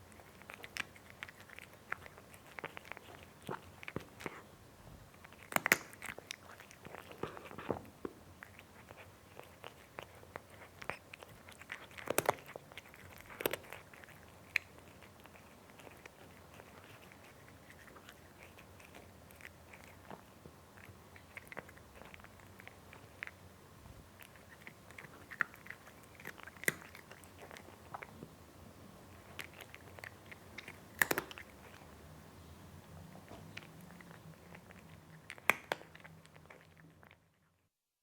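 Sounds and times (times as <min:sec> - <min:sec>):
cat chewing food: 0:00.0 - 0:37.7.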